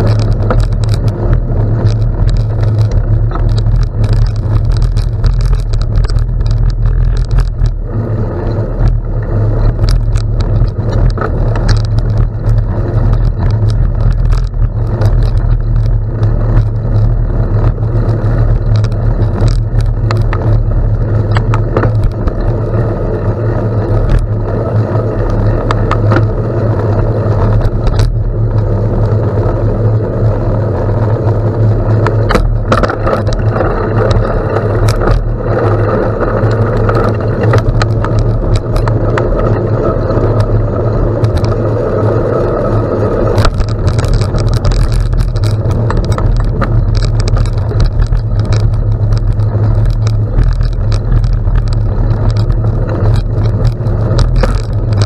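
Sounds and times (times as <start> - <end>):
stones and bike rattling: 0.0 - 55.0
tyres rolling over gravel: 0.0 - 55.0
wind buffeting microphone: 0.0 - 55.0.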